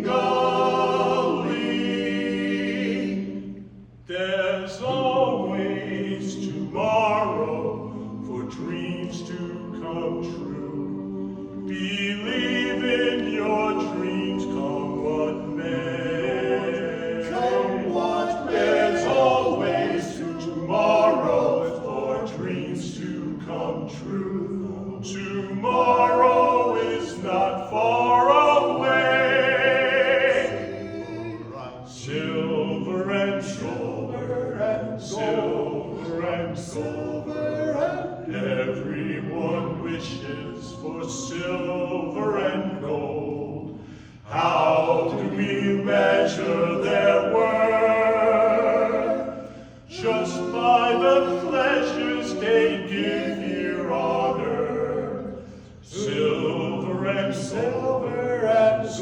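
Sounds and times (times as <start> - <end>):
voices singing christmas song: 0.0 - 59.0.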